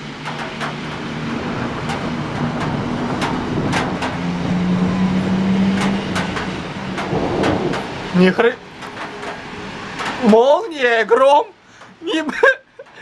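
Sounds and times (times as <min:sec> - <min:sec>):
vehicle engine hum: 0:00.0 - 0:10.6
tyres on wet road: 0:00.0 - 0:13.0.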